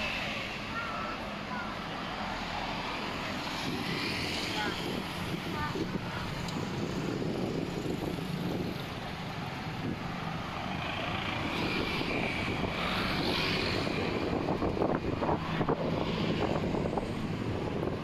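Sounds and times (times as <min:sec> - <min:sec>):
wind noise: 0:03.4 - 0:18.0.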